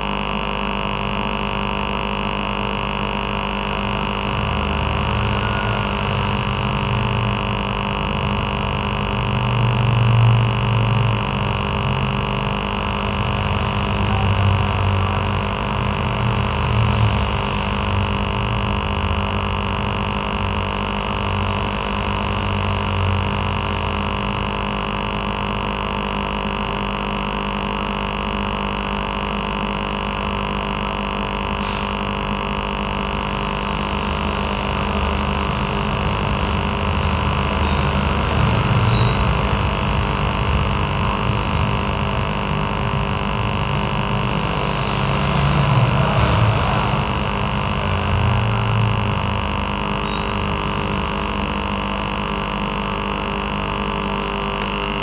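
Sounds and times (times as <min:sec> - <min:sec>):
aquarium air pump humming: 0:00.0 - 0:55.0.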